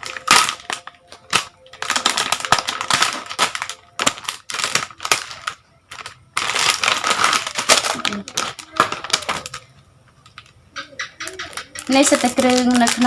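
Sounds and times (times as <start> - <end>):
wrapper crinkling and rustling: 0.0 - 10.6, 11.2 - 13.0.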